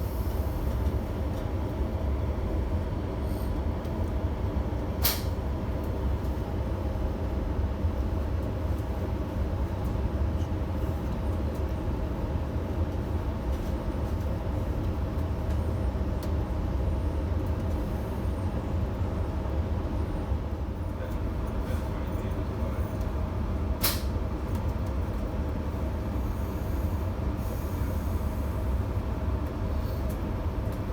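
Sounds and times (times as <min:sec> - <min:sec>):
train rumble inside carriage: 0:00.0 - 0:30.9.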